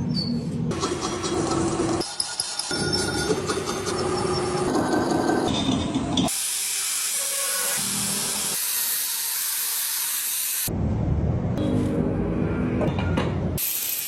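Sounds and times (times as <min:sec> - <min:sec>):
mechanical workshop noise: 0:00.0 - 0:14.0.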